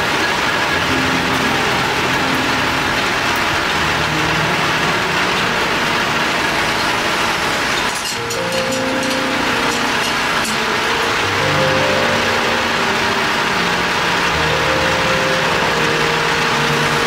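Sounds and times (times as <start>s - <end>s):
metal lathe running: 0.0s - 17.0s.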